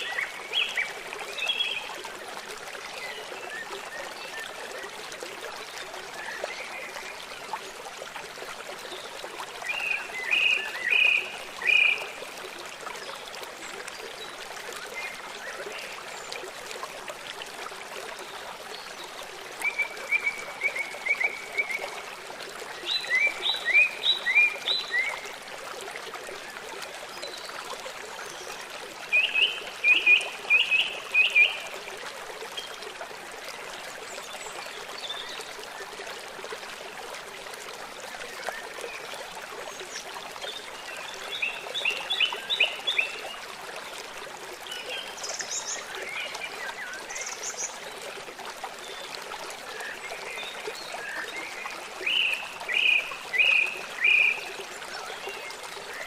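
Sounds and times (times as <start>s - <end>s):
running stream rushing: 0.0s - 56.0s.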